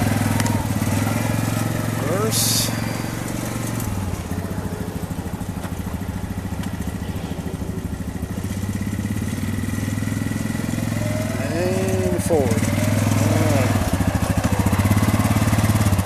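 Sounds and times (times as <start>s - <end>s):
atv engine running slowly: 0.0s - 16.0s.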